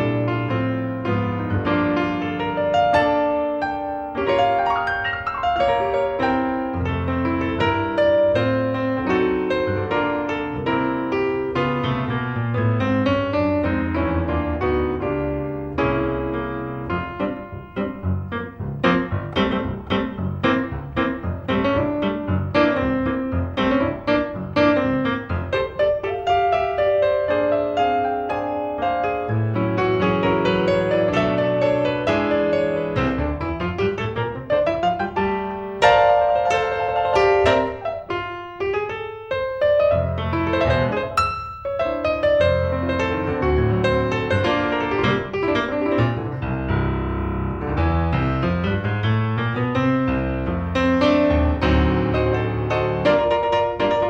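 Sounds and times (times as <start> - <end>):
solo piano playing: 0.0 - 54.0.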